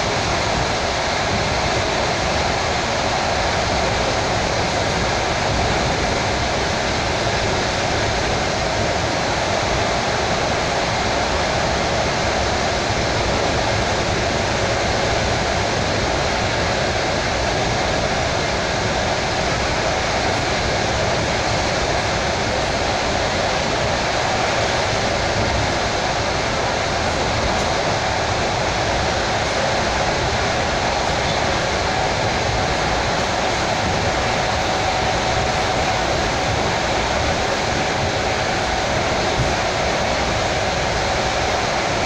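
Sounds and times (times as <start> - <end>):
train wheels rushing on rails: 0.0 - 42.0.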